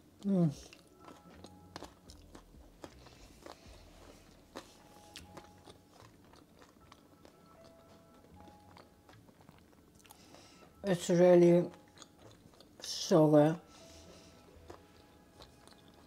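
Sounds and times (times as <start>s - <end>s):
person chewing food: 0.0s - 13.0s, 13.6s - 16.0s
faint background music: 0.0s - 16.0s.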